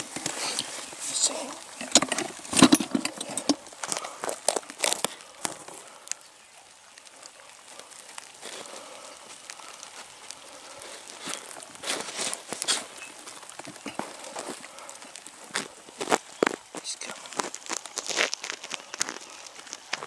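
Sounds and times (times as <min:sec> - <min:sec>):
crackling rustles: 0:00.0 - 0:20.0.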